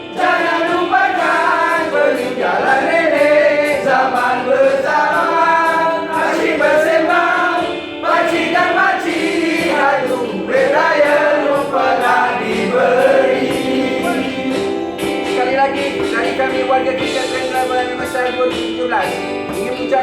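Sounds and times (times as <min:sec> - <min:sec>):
choir singing with light beat: 0:00.0 - 0:20.0.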